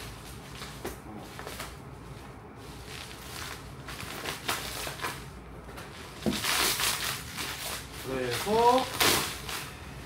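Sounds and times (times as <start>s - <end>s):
bubble wrap crinkling: 0.0s - 9.8s.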